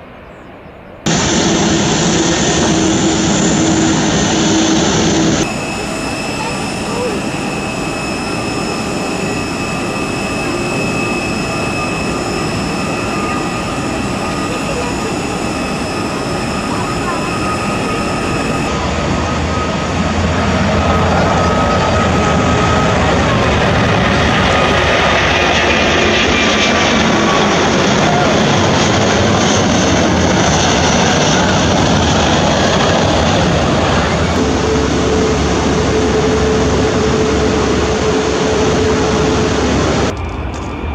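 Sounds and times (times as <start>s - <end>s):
jet engines running: 1.0s - 40.9s
high whine: 1.1s - 40.9s.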